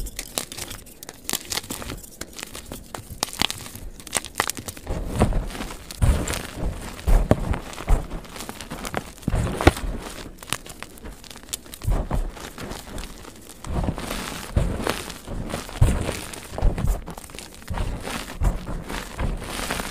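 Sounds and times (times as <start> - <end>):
chalk crushed by hand: 0.0 - 19.9
sharp crack: 0.0 - 19.9.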